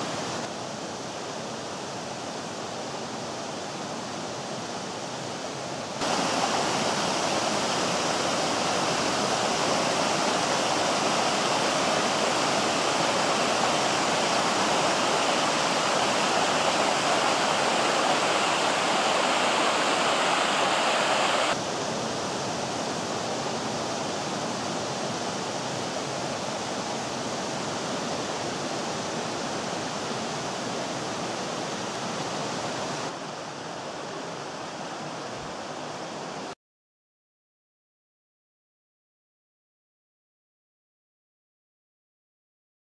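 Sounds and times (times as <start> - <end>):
stream water rushing over cascade: 0.0 - 36.6.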